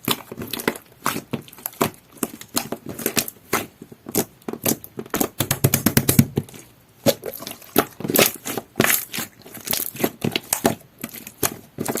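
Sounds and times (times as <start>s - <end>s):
slime squelching by hand: 0.0s - 12.0s.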